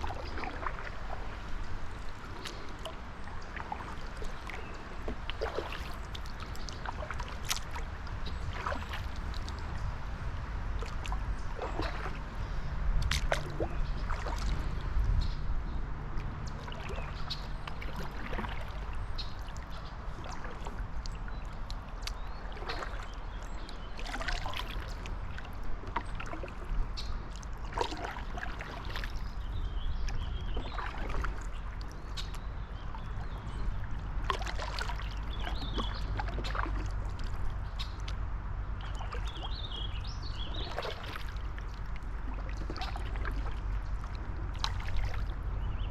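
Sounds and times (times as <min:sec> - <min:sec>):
paddle splashing water: 0:00.0 - 0:15.4, 0:16.0 - 0:45.9
steady low rumble: 0:00.0 - 0:45.9
water lapping against hull: 0:00.0 - 0:45.9.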